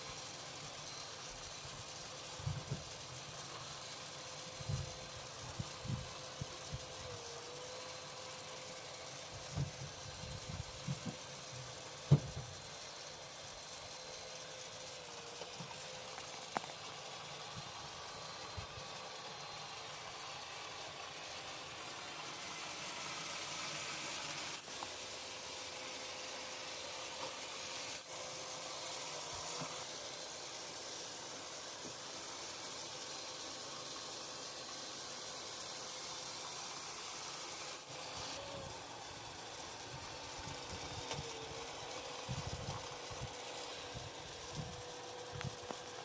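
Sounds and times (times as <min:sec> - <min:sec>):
robot vacuum whirring: 0:00.0 - 0:46.0.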